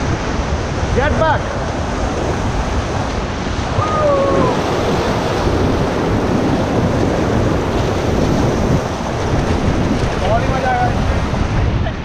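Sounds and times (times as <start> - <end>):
whitewater rapids rushing: 0.0 - 12.0
wind buffeting microphone: 0.0 - 12.0.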